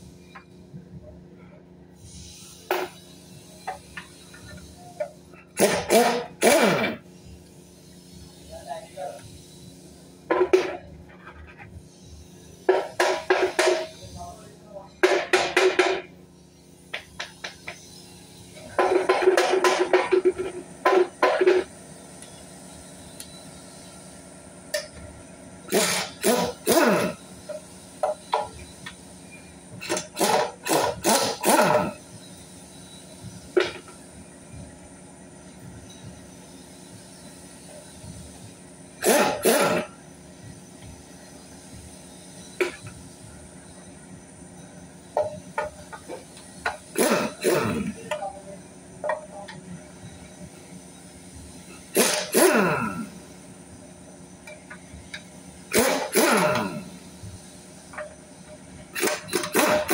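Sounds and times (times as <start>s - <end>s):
pneumatic impact wrench bursts: 1.9s - 14.4s, 15.0s - 34.8s, 35.5s - 44.0s, 44.9s - 48.3s, 49.9s - 59.9s.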